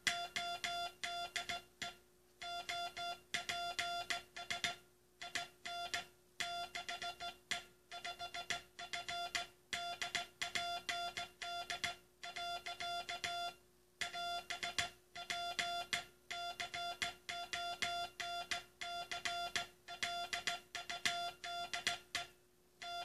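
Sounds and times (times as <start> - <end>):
morse code beeps: 2.4 - 7.4, 8.0 - 22.0.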